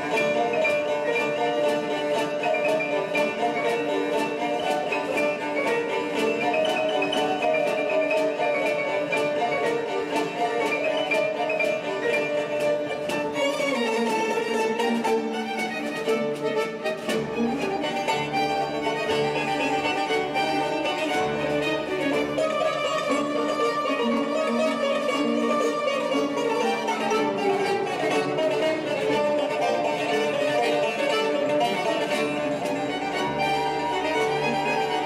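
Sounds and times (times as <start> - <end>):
chamber ensemble playing: 0.0 - 35.0.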